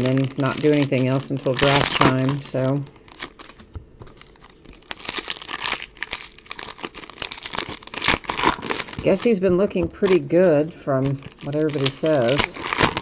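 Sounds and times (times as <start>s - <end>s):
wrappers tearing and crinkling: 0.0s - 9.4s, 10.0s - 13.0s
cards rustling and clicking: 0.0s - 13.0s.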